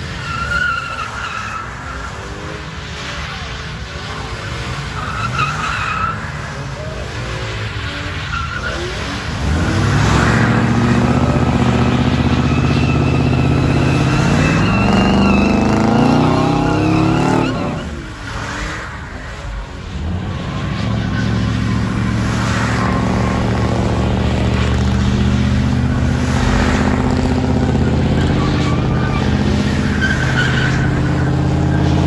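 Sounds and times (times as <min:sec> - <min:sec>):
car engine at high revs: 0:00.0 - 0:32.0
tyres spinning and squealing: 0:00.0 - 0:32.0.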